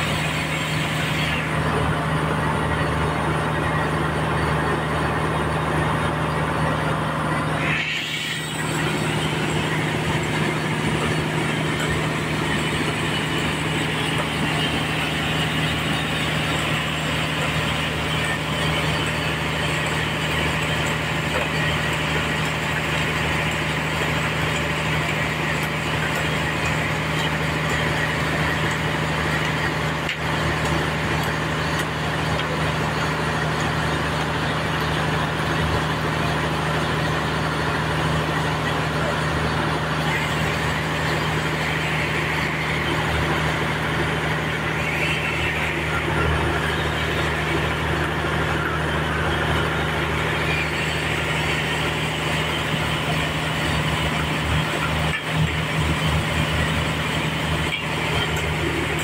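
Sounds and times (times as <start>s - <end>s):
machine hum: 0.0s - 59.0s
saw cutting through log: 7.3s - 34.2s, 34.9s - 59.0s.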